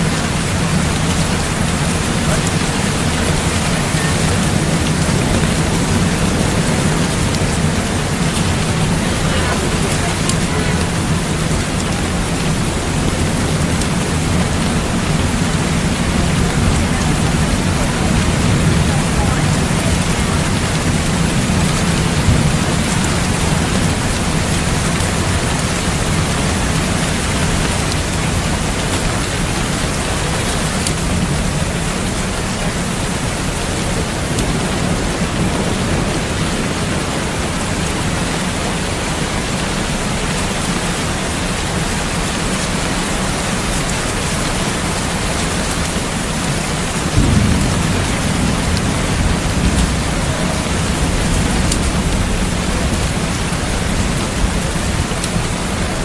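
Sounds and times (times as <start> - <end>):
heavy rain: 0.0 - 56.0
low rolling thunder: 0.0 - 56.0.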